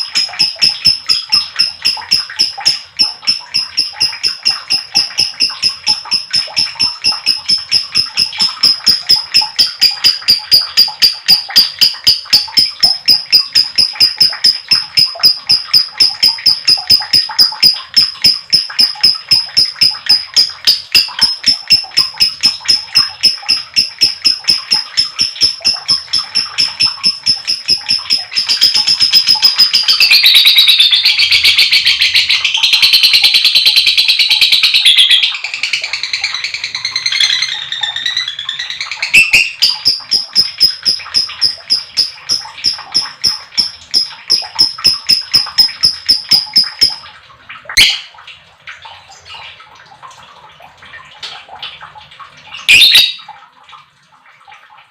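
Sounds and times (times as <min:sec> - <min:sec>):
lovebird chattering chirps: 0:00.0 - 0:47.0, 0:47.8 - 0:48.1, 0:52.6 - 0:53.2.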